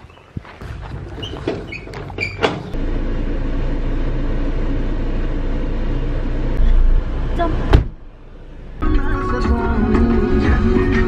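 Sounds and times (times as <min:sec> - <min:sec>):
rough road noise: 0:00.0 - 0:11.0
car engine rumble: 0:00.6 - 0:11.0.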